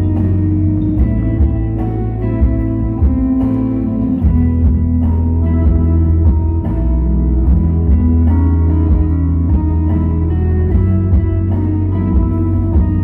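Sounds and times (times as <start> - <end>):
pop music with guitar and bass: 0.0 - 13.0.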